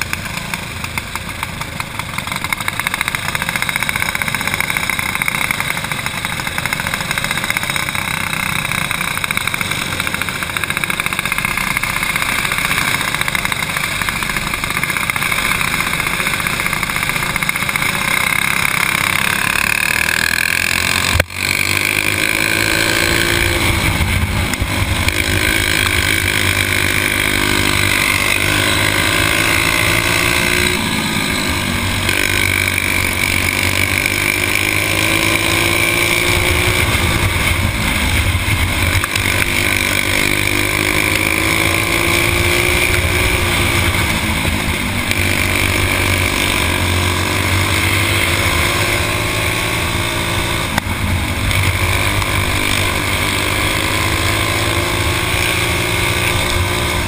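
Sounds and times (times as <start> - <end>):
racing kart engines running: 0.0 - 57.0.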